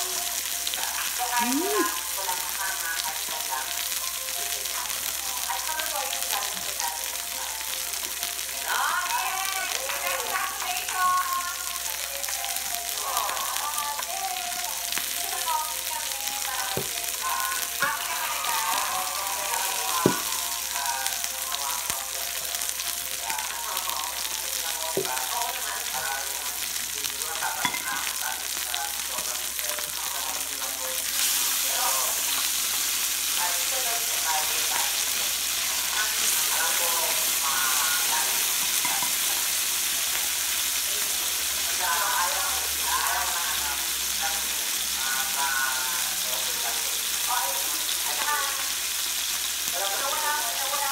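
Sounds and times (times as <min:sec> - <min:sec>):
faint background music: 0:00.0 - 0:50.9
meat sizzling on a grill: 0:00.0 - 0:50.9.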